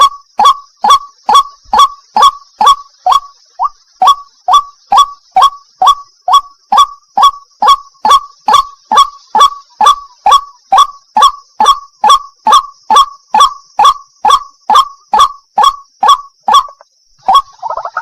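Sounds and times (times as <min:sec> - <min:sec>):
waterhen wak calls: 0:00.0 - 0:18.0.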